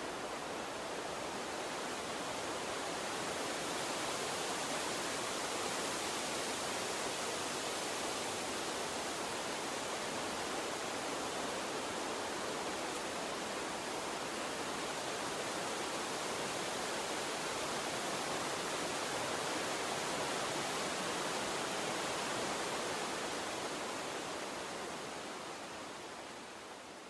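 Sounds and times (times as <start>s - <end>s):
stream of water running: 0.0s - 27.0s.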